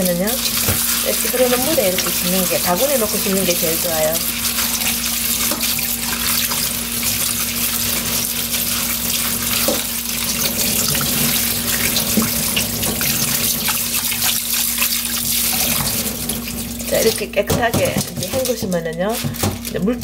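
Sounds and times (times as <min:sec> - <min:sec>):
tap water splashing into sink: 0:00.2 - 0:19.8.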